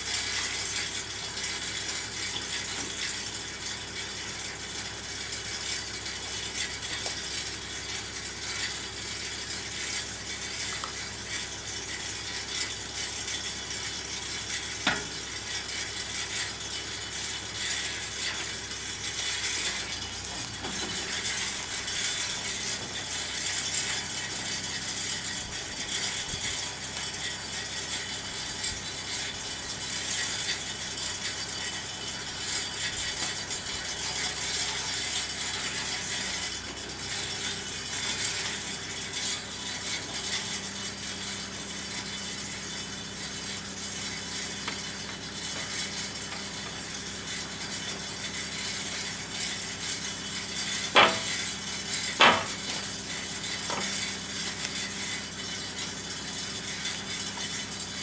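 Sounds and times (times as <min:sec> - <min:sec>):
engine idling with rattle: 0:00.0 - 0:58.0.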